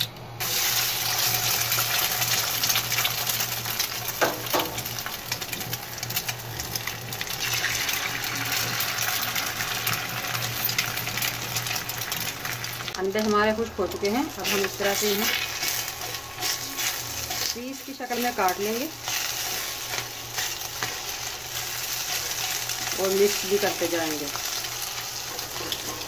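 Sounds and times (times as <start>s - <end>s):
eggs sizzling in hot oil: 0.4s - 26.0s.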